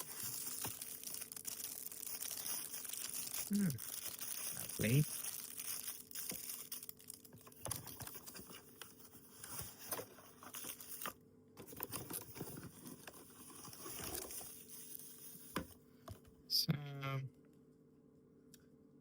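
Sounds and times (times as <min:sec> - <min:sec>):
cardboard box rustling: 0:00.0 - 0:06.8, 0:07.4 - 0:15.8.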